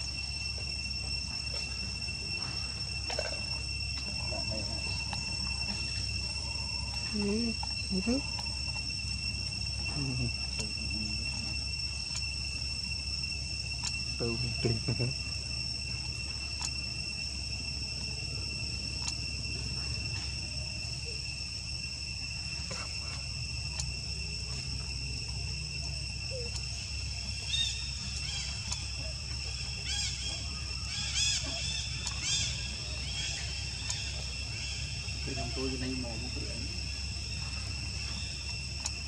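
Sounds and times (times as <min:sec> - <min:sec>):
shrill insect chorus: 0:00.0 - 0:39.0.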